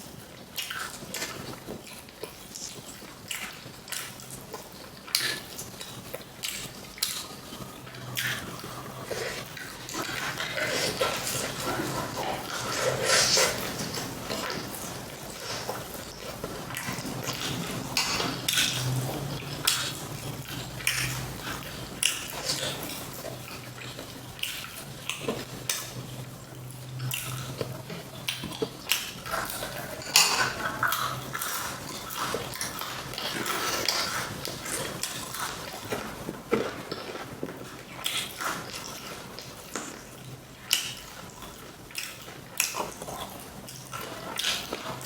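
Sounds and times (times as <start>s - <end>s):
crunching and chewing: 0.0s - 45.0s.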